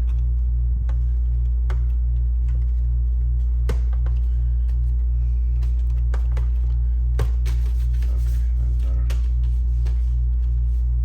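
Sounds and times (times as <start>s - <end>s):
low pulsing hum: 0.0s - 11.0s.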